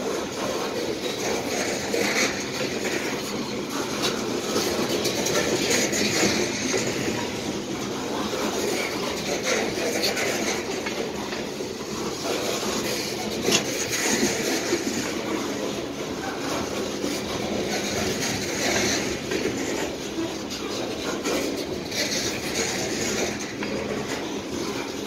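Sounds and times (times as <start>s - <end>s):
freight train wheels clicking on rails: 0.0s - 25.0s.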